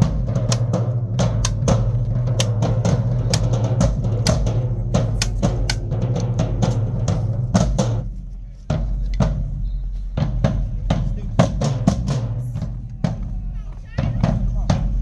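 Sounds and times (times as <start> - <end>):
bass drums: 0.0 - 15.0
snare drums: 0.0 - 15.0.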